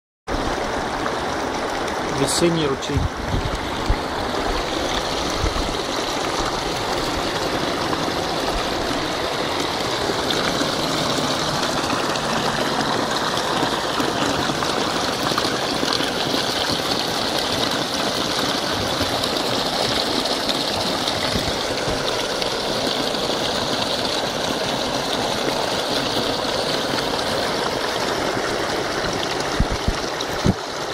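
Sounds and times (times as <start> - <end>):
stream splashing into pool: 0.3 - 30.9.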